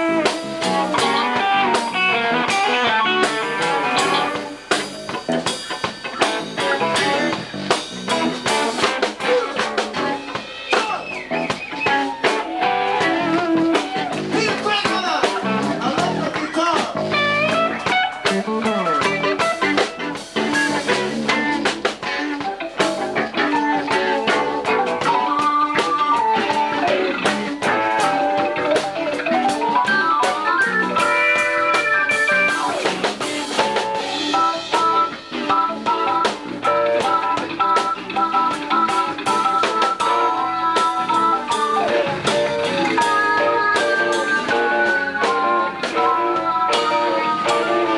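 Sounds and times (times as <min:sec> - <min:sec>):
bass guitar: 0:00.0 - 0:47.9
drums: 0:00.0 - 0:47.9
electric guitar: 0:00.0 - 0:47.9
keyboard run of notes: 0:00.0 - 0:47.9.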